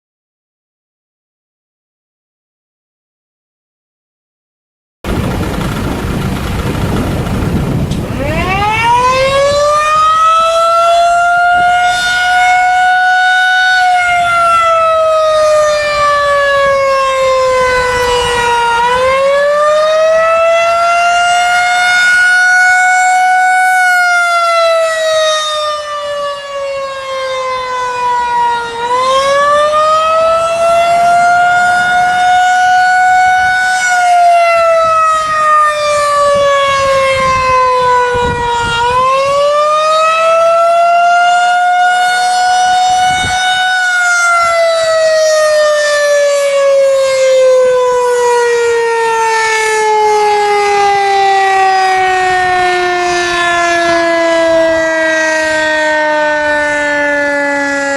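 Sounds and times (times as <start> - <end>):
rotating tornado siren wailing: 5.1 - 57.9.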